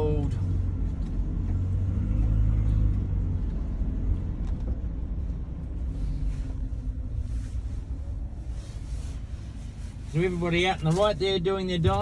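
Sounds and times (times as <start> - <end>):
van engine and road rumble: 0.0 - 12.0.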